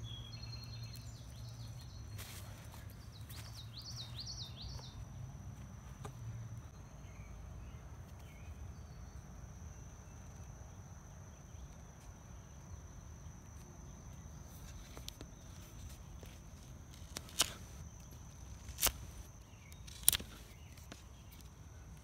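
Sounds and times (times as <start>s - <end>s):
insects trilling: 0.0s - 22.0s
outdoor background noise: 0.0s - 22.0s.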